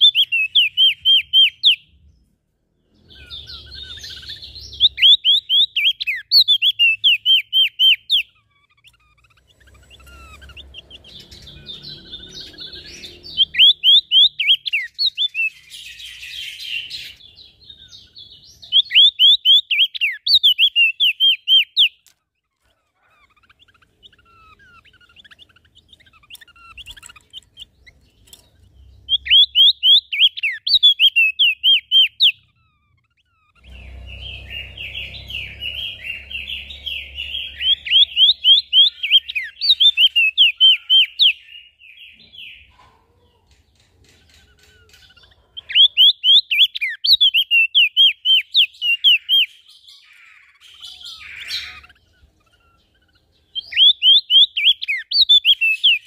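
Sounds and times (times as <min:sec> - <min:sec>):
birds twittering: 0:00.0 - 0:56.0
songbirds chirping: 0:00.0 - 0:56.0.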